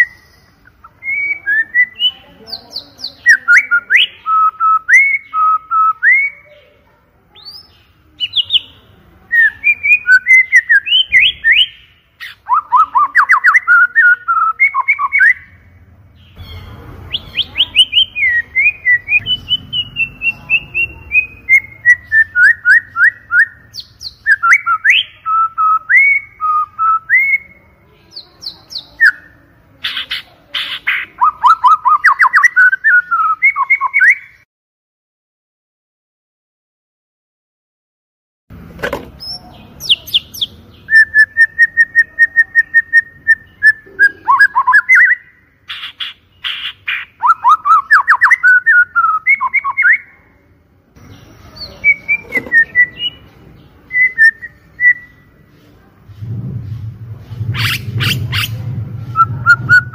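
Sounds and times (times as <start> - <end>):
bird singing whistled trills: 0.0 - 6.6, 7.4 - 15.6, 16.2 - 29.4, 30.9 - 34.4, 39.2 - 50.2, 51.0 - 53.3, 53.9 - 55.3, 57.5 - 59.9.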